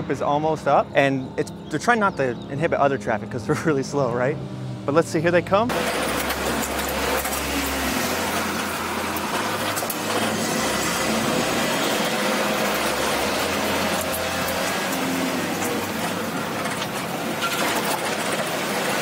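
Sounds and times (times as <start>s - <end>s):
road noise: 0.0s - 19.0s
small truck engines running hard: 0.0s - 19.0s.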